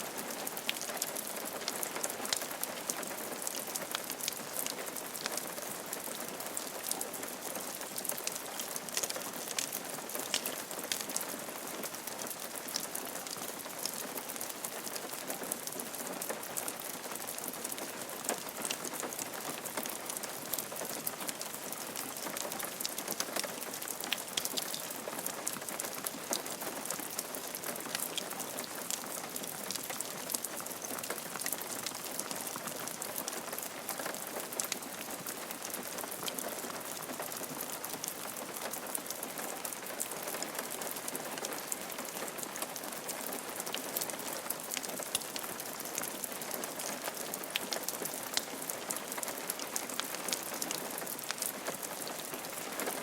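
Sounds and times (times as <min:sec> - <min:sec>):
rain on a roof: 0:00.0 - 0:53.0.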